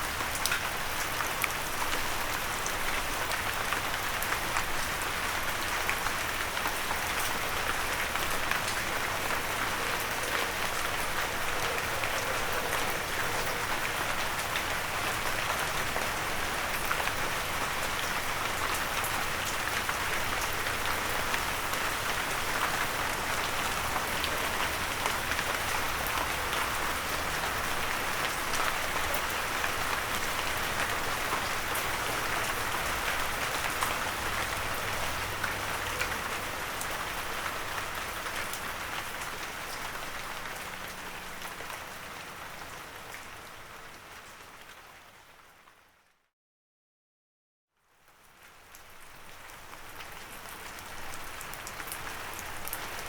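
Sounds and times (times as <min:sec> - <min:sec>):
rain on a windowsill: 0:00.0 - 0:46.2, 0:47.8 - 0:53.0.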